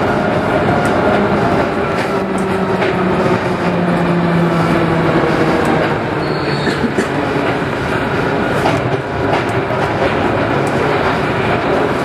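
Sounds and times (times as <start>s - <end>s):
train rolling rumble in tunnel: 0.0s - 12.0s.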